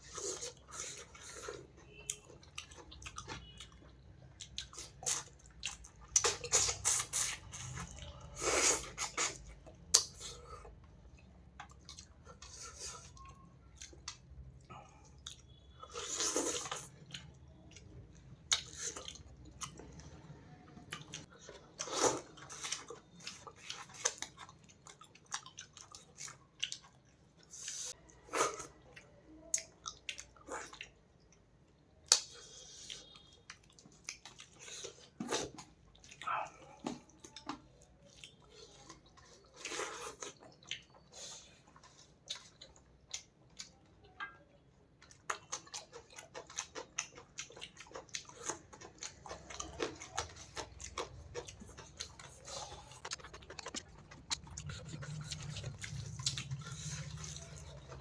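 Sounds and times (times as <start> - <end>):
close-miked chewing: 0.0 - 58.0.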